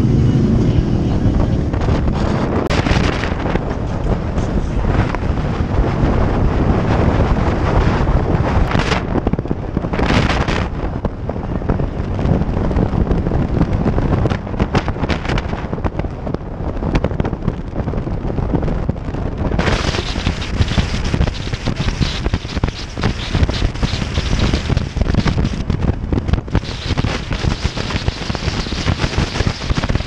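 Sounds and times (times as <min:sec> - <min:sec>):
engine and road noise: 0:00.0 - 0:30.0
wind buffeting microphone: 0:00.0 - 0:30.0.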